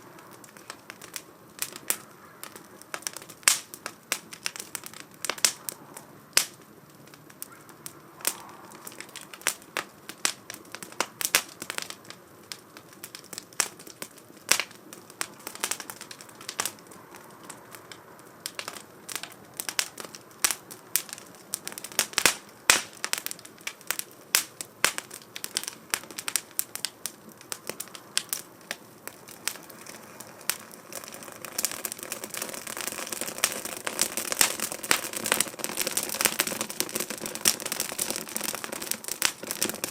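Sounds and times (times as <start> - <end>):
flames rushing: 0.0 - 39.9
wood fire crackling and popping: 0.0 - 39.9.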